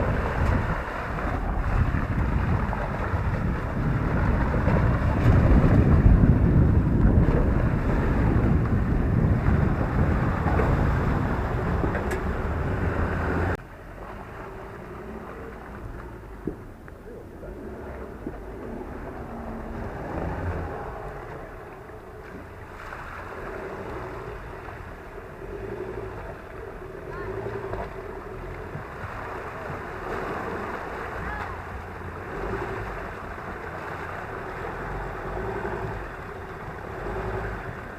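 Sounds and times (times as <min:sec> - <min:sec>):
wind noise on microphone: 0:00.0 - 0:13.6, 0:14.4 - 0:37.9
truck engine under load: 0:00.0 - 0:37.9
water and mud churning: 0:00.0 - 0:37.9.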